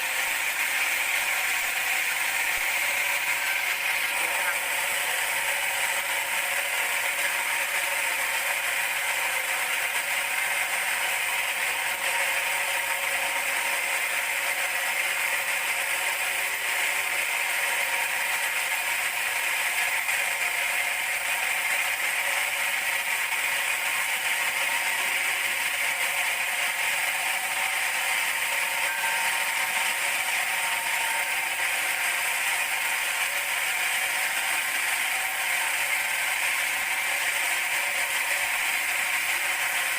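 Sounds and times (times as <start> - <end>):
band sawmill whirring: 0.0 - 39.9.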